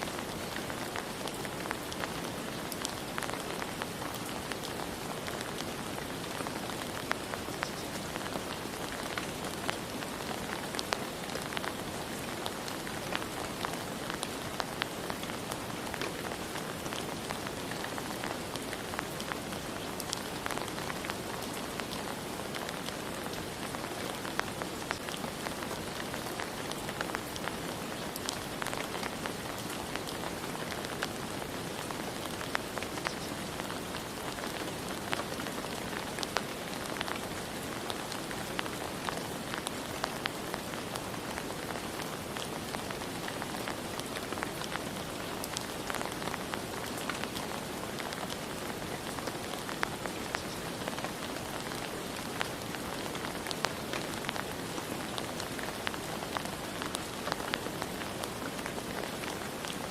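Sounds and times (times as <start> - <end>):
raindrops ticking on surface: 0.0 - 59.9
steady rain hiss: 0.0 - 59.9.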